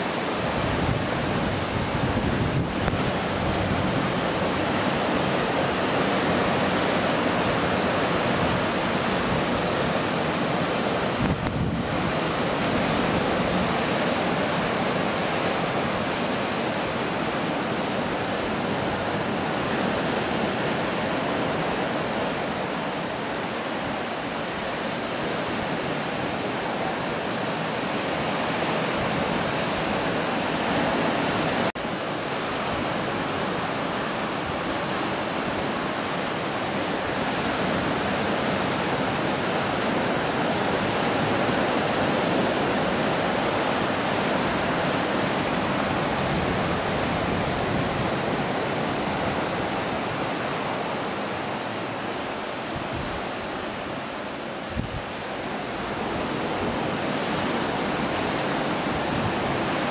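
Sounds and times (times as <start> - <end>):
waves breaking on rocky shore: 0.0 - 59.9.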